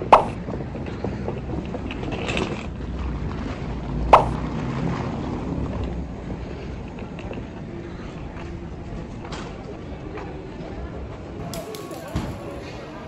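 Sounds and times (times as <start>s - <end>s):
low rumble of background noise: 0.0s - 13.0s.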